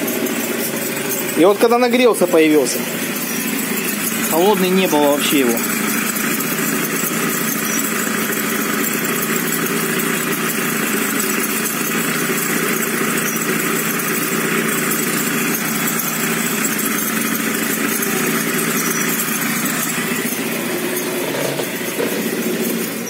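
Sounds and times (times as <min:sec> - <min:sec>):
scooter engine idling: 0:00.0 - 0:23.0
squeak: 0:00.0 - 0:23.0.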